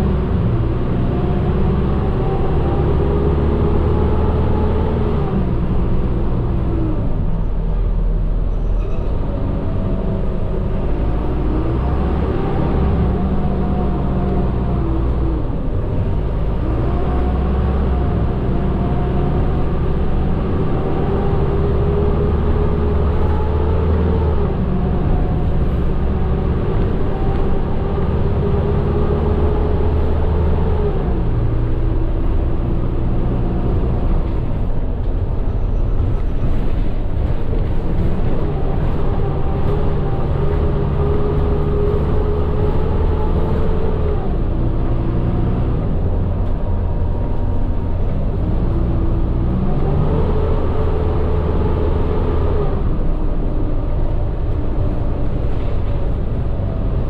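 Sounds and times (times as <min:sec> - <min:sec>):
bus engine: 0:00.0 - 0:57.0
road rumble: 0:00.0 - 0:57.0.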